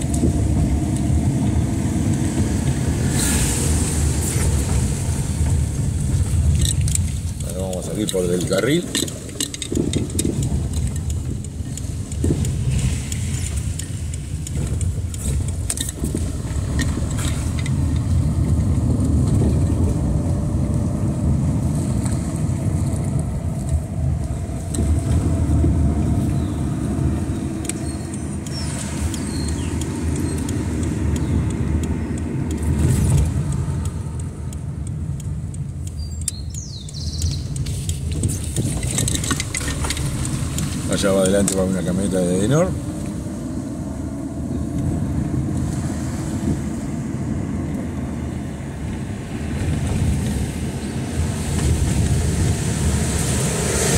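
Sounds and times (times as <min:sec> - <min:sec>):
car engine rumble: 0:00.0 - 0:53.9
tyres on wet pavement: 0:00.0 - 0:53.9.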